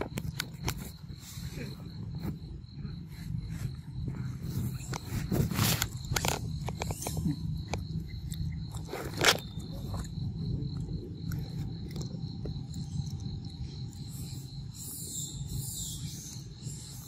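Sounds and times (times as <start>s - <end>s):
low rumble: 0.0s - 15.6s
high-pitched insect drone: 0.0s - 17.0s.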